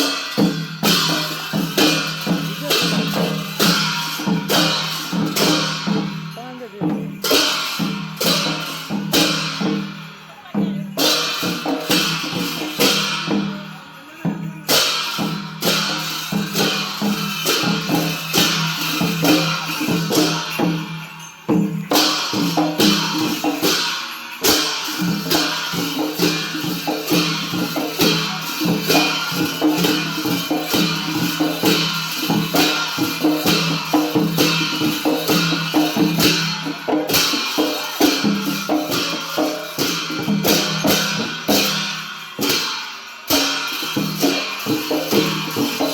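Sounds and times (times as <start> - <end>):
drums and clashing cymbals: 0.0 - 45.9.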